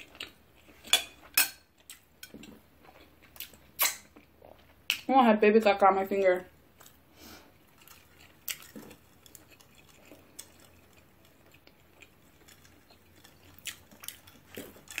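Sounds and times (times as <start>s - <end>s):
chewing: 0.0s - 5.1s, 6.7s - 15.0s.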